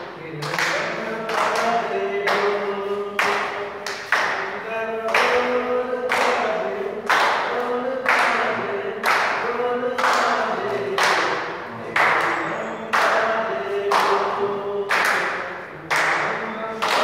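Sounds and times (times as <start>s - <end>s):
music with held singing voice: 0.0s - 17.0s
rhythmic hand clapping: 0.0s - 17.0s.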